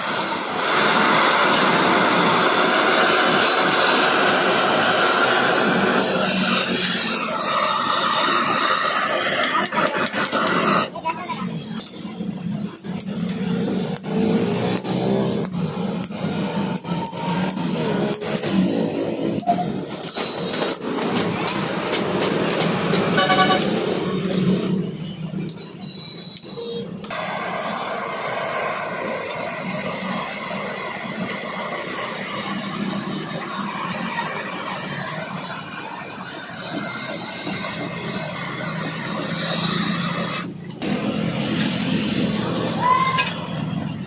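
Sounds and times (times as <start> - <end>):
gas blowtorch burning: 0.0 - 44.0.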